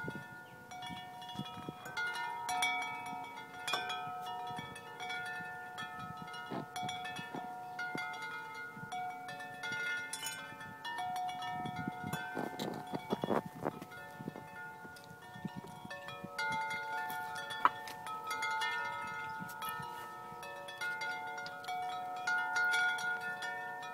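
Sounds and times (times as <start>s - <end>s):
deep wind chime tubes ringing: 0.0s - 23.9s.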